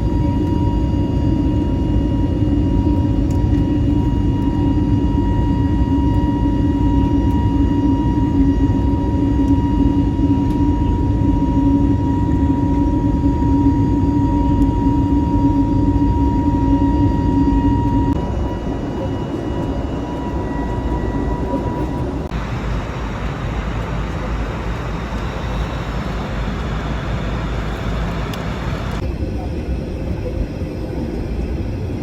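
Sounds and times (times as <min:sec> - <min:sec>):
airplane cabin engine rumble: 0:00.0 - 0:32.0
thin constant whine: 0:00.0 - 0:32.0.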